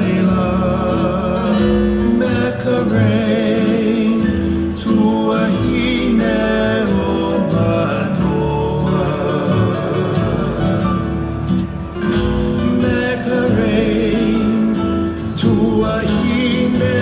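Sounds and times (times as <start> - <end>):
plucked acoustic guitar: 0.0 - 17.0.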